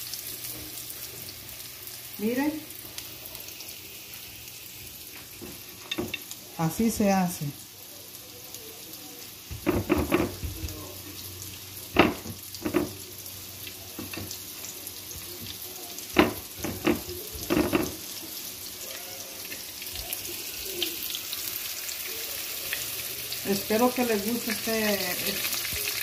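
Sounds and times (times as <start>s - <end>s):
cutlets sizzling in oil: 0.0s - 26.0s.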